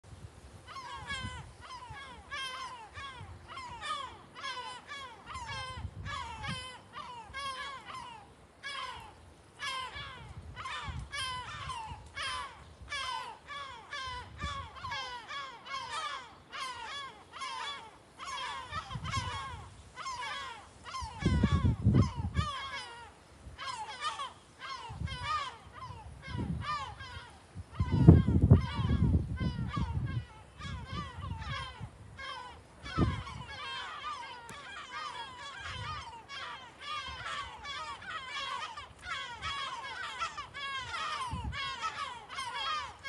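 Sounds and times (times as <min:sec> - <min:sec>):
gulls calling: 0:00.7 - 0:43.0.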